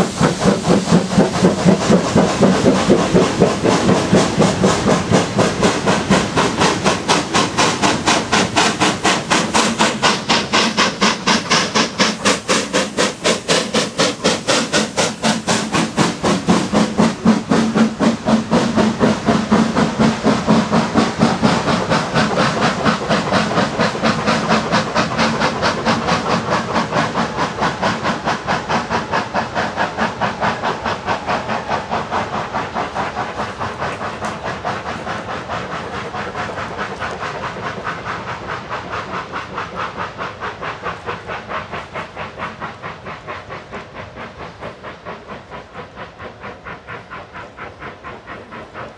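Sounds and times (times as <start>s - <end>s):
steam hiss: 0.0s - 48.9s
steam locomotive exhaust beats: 0.0s - 48.9s.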